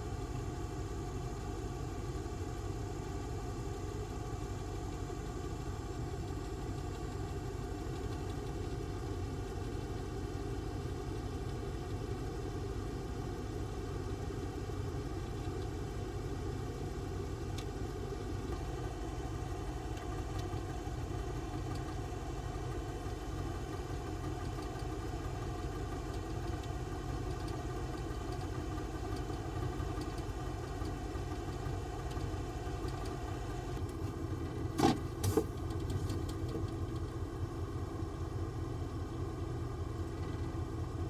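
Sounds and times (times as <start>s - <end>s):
low engine-like rumble: 0.0s - 41.0s.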